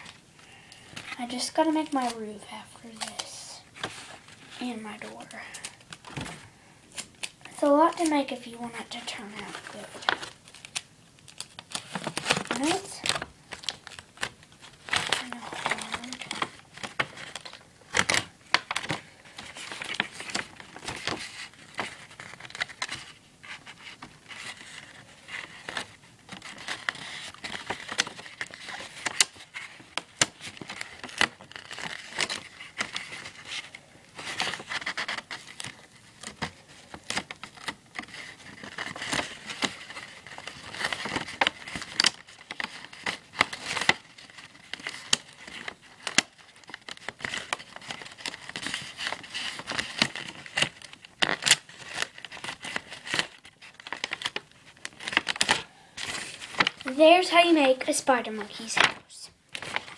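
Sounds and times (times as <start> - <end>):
paper crinkling and rustling: 0.0 - 59.9.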